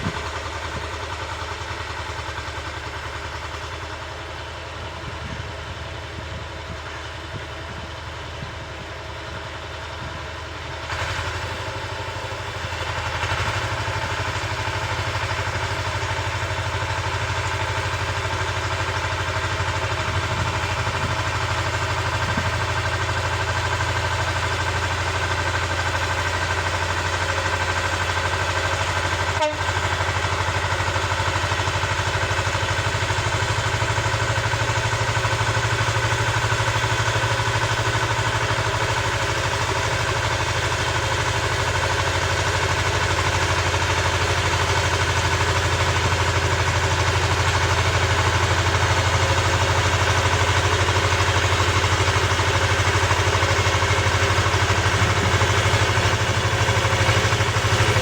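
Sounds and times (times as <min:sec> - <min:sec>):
engine knock: 0:00.0 - 0:58.0
rotary tiller in soil: 0:00.0 - 0:58.0
tractor engine running under load: 0:00.0 - 0:58.0.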